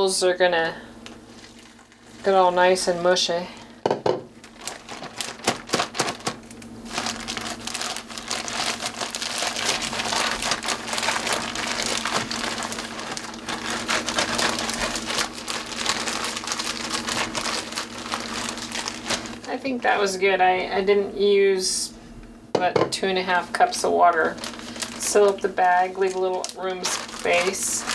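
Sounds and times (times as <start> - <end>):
plastic bag crinkling: 1.0 - 20.1, 23.7 - 27.9.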